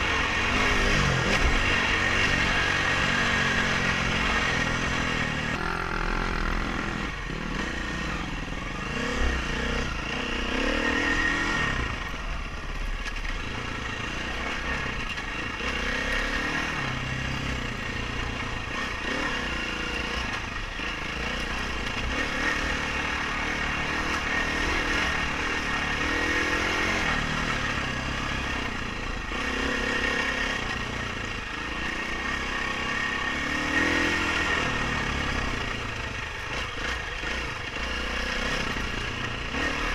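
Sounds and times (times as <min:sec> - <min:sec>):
dirt bike engine revving: 0:00.0 - 0:12.6, 0:13.2 - 0:39.9.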